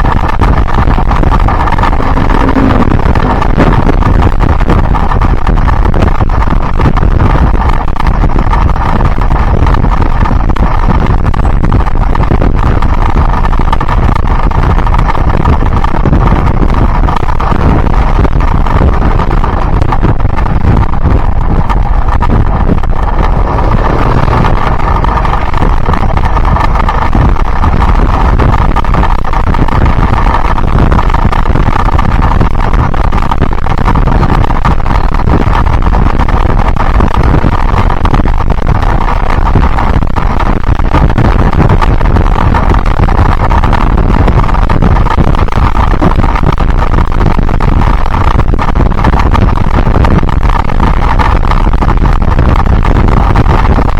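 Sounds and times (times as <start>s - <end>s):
motorcycle engine running: 0.0s - 53.9s
wind rush on microphone: 0.0s - 53.9s.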